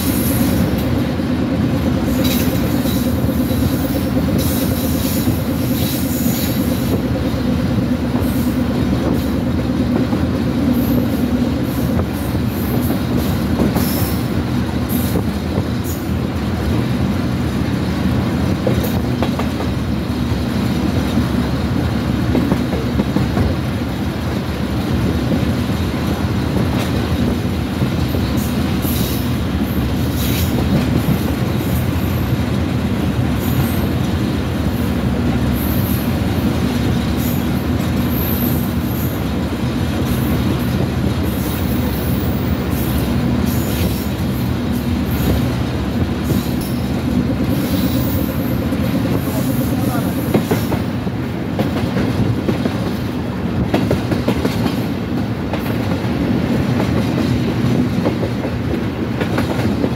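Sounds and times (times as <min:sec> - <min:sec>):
diesel locomotive engine drone: 0:00.0 - 0:59.9
wheel and rail rumble: 0:00.0 - 0:59.9.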